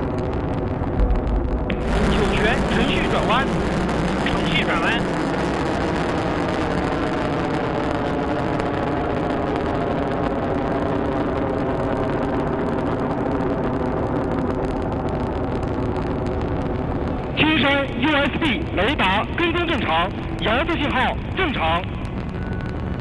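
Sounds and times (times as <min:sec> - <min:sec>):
rocket engines firing: 0:00.0 - 0:23.0.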